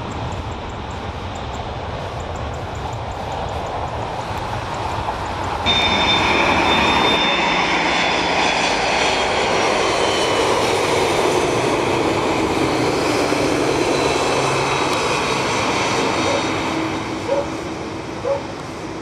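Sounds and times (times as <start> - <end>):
jet engines at takeoff: 0.0 - 19.0.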